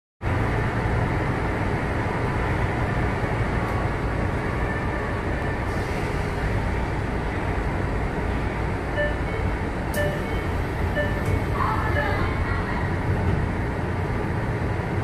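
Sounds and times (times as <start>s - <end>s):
train car hum and rumble: 0.2s - 15.0s.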